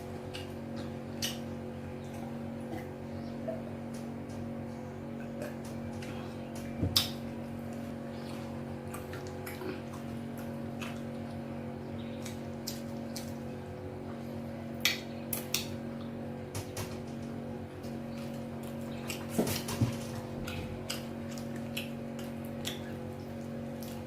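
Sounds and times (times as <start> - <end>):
steady background hum: 0.0 - 24.0
wet eating squelches: 0.0 - 24.0.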